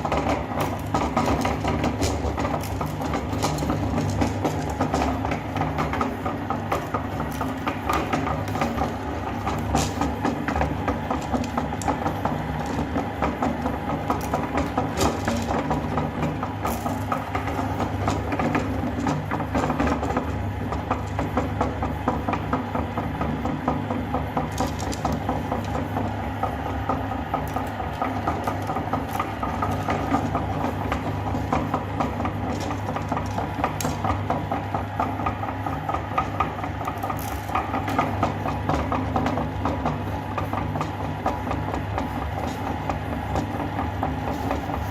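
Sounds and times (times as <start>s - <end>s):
hard candy rattling and cracking: 0.0s - 21.8s, 24.3s - 40.0s
meat grinder motor humming: 0.0s - 44.9s.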